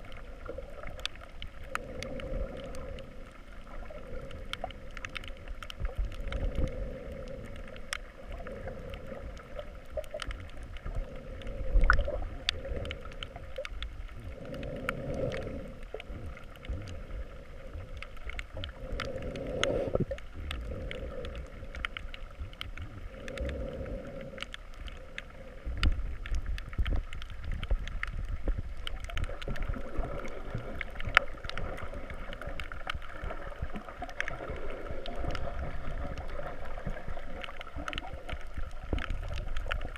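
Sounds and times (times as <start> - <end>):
sharp clicks and crackles: 0.0 - 39.9
underwater rumble of moving water: 0.0 - 39.9.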